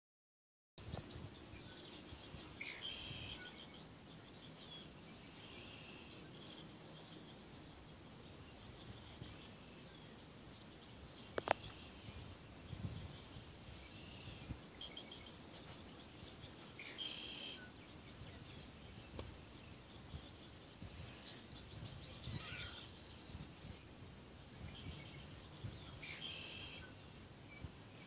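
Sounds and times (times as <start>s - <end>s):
birds chirping: 0.8s - 28.0s.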